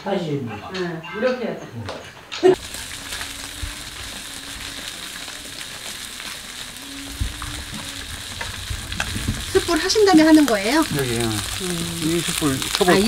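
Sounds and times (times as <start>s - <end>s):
food sizzling on grill: 2.4s - 13.0s.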